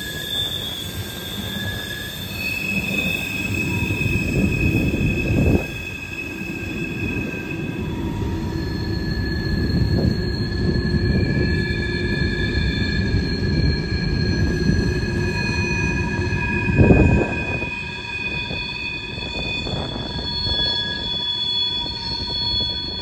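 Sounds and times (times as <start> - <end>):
freight train rumbling past: 0.0 - 21.2
train wheels squealing: 0.0 - 23.0.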